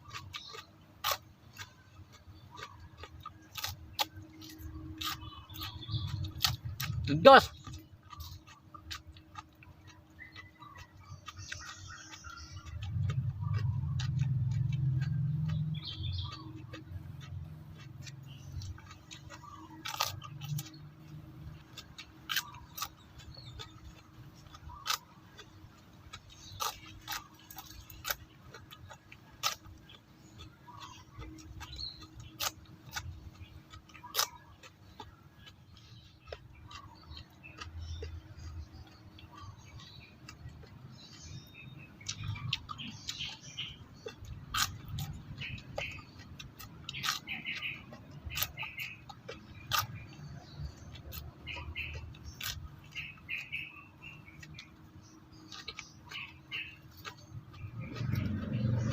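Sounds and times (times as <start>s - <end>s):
crunchy chewing: 0.0s - 58.9s.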